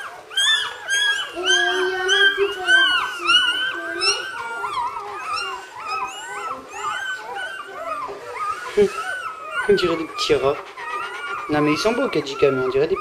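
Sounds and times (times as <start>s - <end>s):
puppies squealing and whimpering: 0.0s - 13.0s.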